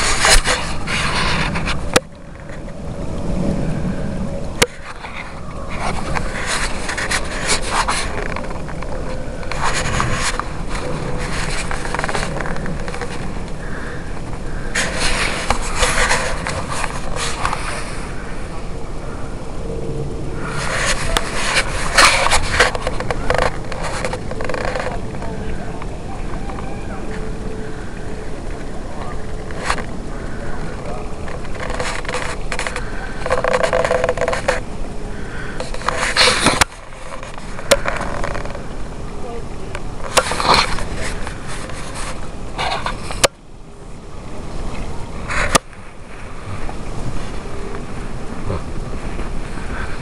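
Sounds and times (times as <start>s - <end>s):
low rumble on microphone: 0.0s - 50.0s.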